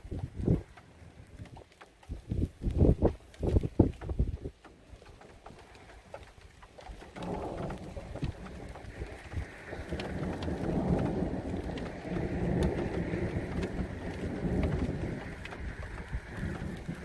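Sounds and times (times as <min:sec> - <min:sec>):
raindrops ticking: 0:00.0 - 0:17.0
wind buffeting microphone: 0:00.0 - 0:17.0.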